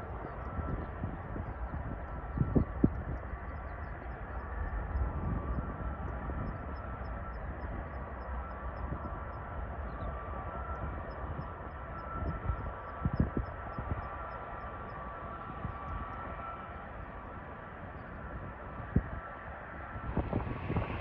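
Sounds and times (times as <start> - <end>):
distant jet engines running: 0.0 - 21.0
wind buffeting microphone: 0.0 - 21.0.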